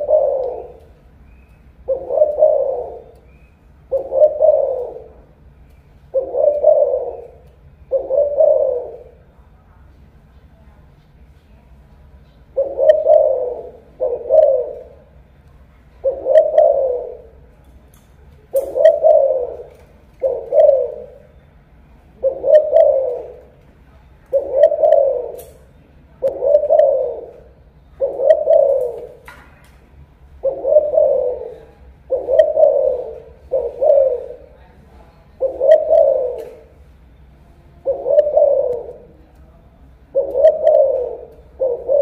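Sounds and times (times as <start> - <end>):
dove cooing: 0.0 - 9.3, 12.3 - 17.5, 18.5 - 21.5, 22.1 - 23.6, 24.2 - 29.3, 30.3 - 34.6, 35.3 - 36.9, 37.8 - 39.3, 39.9 - 42.0.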